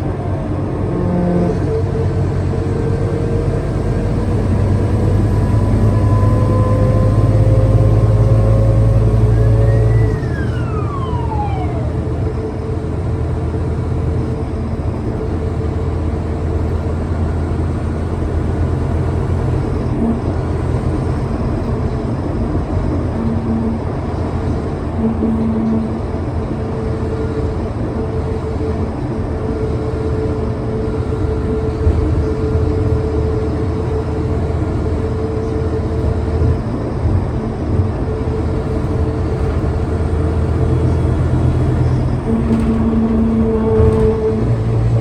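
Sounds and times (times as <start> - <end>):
bus engine accelerating: 0.0 - 45.0
drivetrain whine: 0.0 - 45.0.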